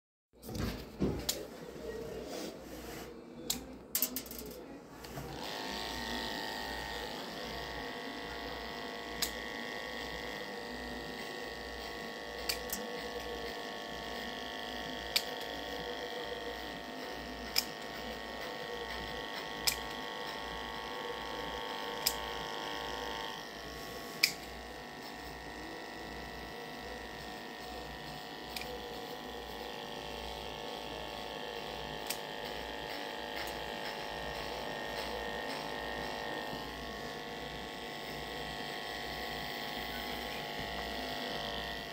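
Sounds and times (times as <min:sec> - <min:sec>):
electric clippers buzzing: 0:05.2 - 0:41.9.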